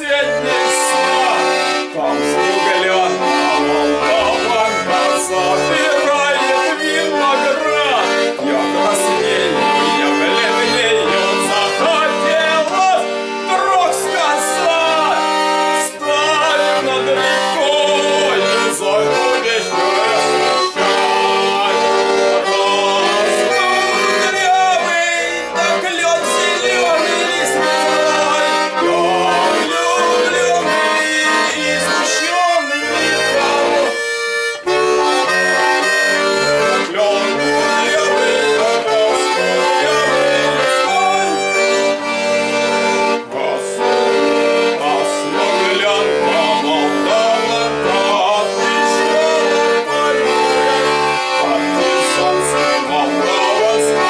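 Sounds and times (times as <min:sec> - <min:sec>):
button accordion folk melody: 0:00.0 - 0:54.0.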